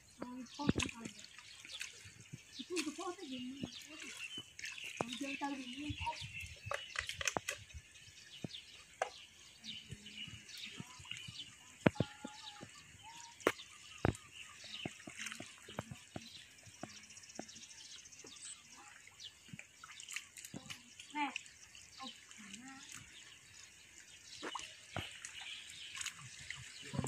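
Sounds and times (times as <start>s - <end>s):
birds chirping: 0.0s - 27.0s
muddy water splashing: 0.0s - 27.0s.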